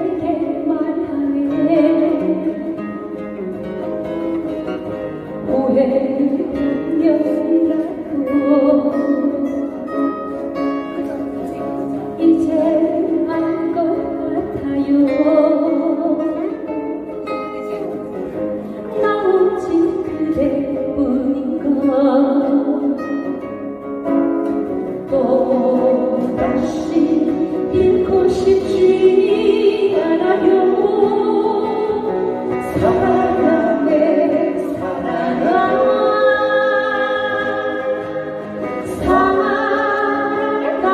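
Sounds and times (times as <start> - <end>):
woman singing: 0.0 - 3.6, 5.3 - 10.6, 11.6 - 17.6, 18.9 - 23.4, 24.6 - 40.9
acoustic guitars playing: 0.0 - 40.9.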